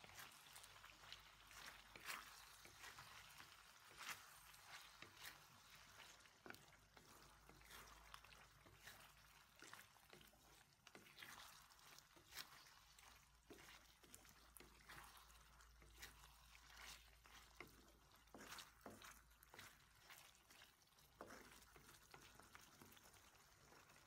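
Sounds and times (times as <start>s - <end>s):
food bubbling in a wok: 0.0s - 24.0s
wooden spatula stirring: 0.0s - 24.0s.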